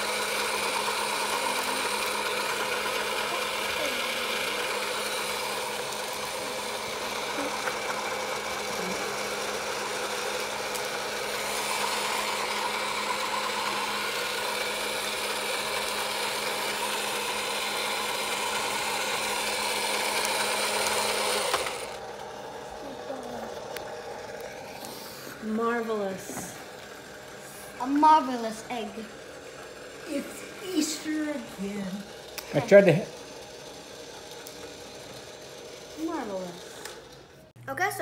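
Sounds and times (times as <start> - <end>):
small electric motor whirring: 0.0 - 37.6.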